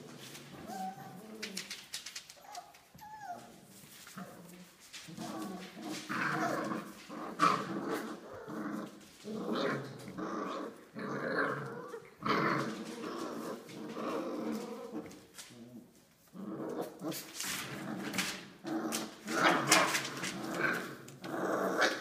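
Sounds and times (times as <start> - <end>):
puppies growling: 0.0 - 22.0.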